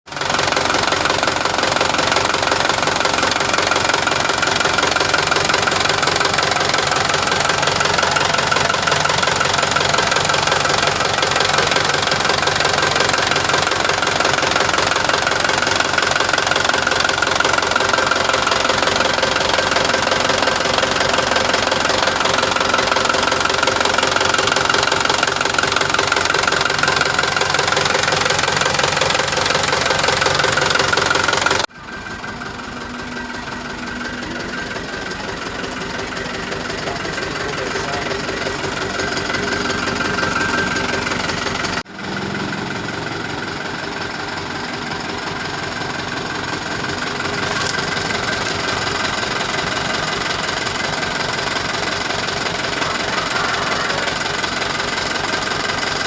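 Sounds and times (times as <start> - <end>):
diesel truck engine idling: 0.1 - 56.0.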